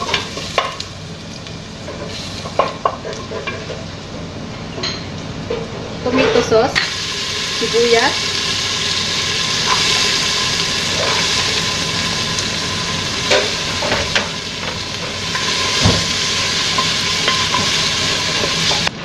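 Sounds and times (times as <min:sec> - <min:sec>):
sauce sizzling in hot oil: 0:00.0 - 0:03.2, 0:06.8 - 0:18.9.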